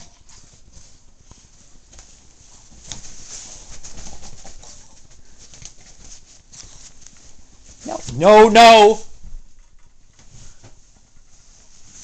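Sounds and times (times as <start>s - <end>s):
bedding and fabric rustling: 0.0s - 12.0s
dog scuffling: 0.0s - 12.0s.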